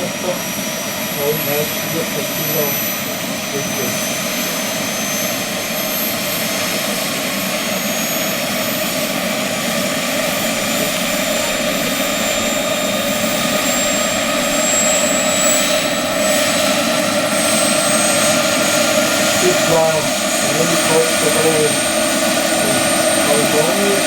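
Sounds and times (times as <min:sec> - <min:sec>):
model helicopter motor and rotor: 0:00.0 - 0:24.0.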